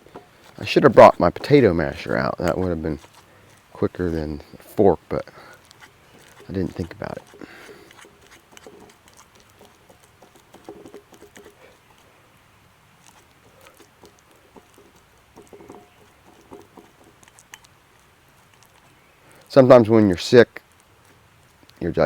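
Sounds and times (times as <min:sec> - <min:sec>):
fork mashing banana: 0:00.0 - 0:12.3, 0:12.9 - 0:21.8.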